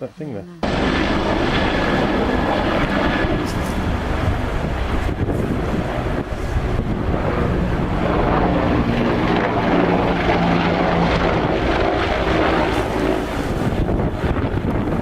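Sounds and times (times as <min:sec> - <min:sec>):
helicopter engine and rotor drone: 0:00.6 - 0:15.0.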